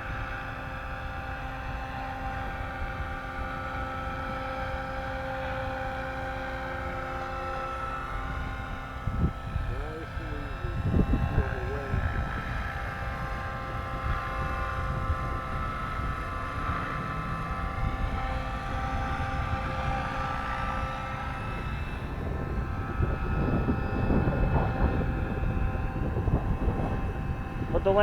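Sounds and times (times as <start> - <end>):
model helicopter motor whine: 0.0 - 28.0
wind buffeting microphone: 0.0 - 28.0.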